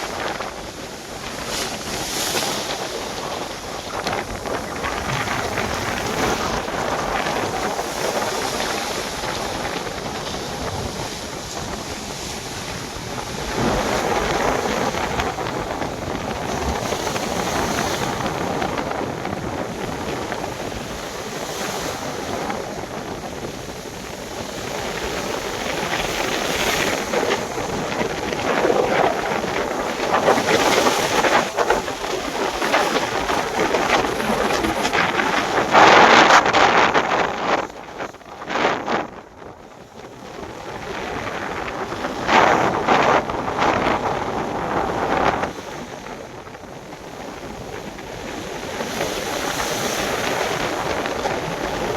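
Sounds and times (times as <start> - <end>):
sea waves: 0.0 - 51.9
wind rushing over microphone: 0.0 - 51.9.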